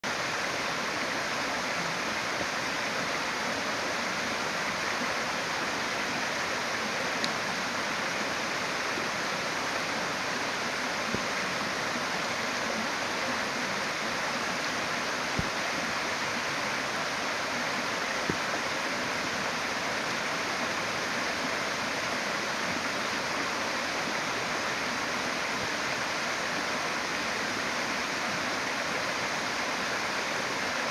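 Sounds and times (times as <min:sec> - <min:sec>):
stream flowing over rocks: 0:00.0 - 0:30.9.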